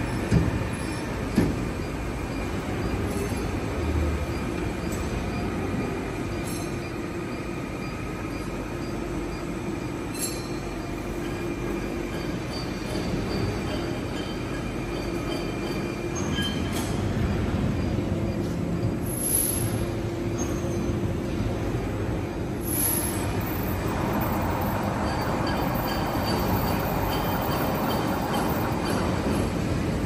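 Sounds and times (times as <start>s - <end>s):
boring mill mechanical hum: 0.0s - 30.0s.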